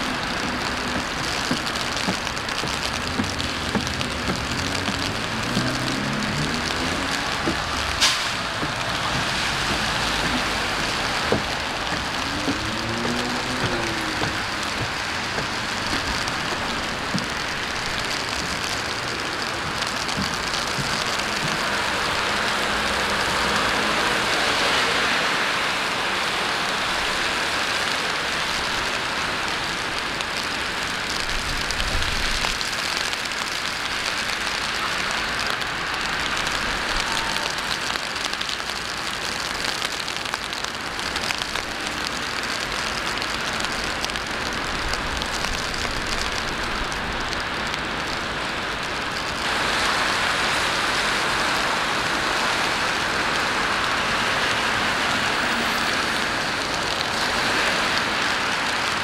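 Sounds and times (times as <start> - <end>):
city traffic: 0.0 - 59.0
rain hissing on streets: 0.0 - 59.0.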